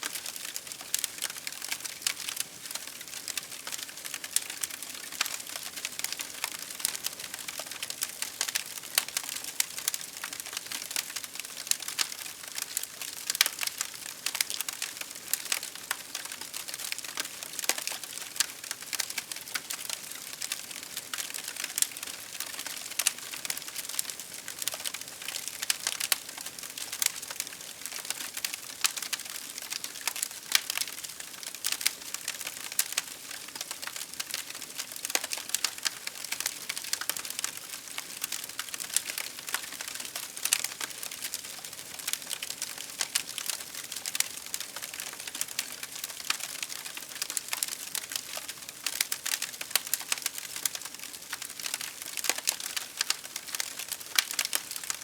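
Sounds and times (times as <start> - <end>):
wood fire crackling: 0.1 - 55.0.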